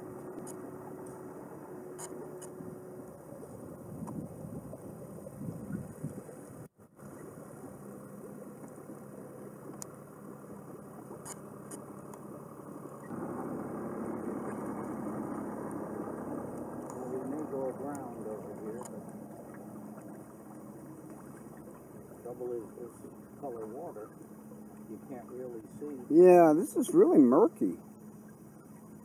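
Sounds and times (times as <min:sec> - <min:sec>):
small boat motor running: 0:00.0 - 0:29.0
water noise: 0:00.0 - 0:29.0.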